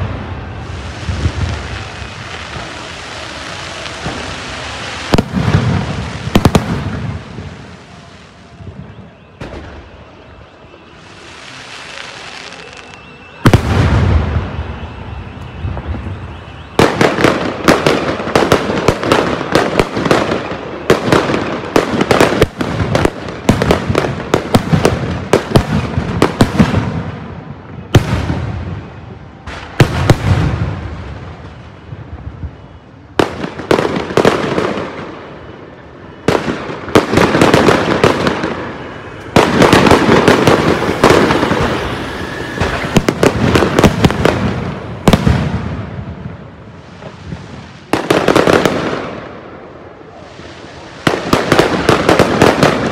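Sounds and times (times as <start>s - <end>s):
fireworks bangs and crackling: 0.0s - 52.9s.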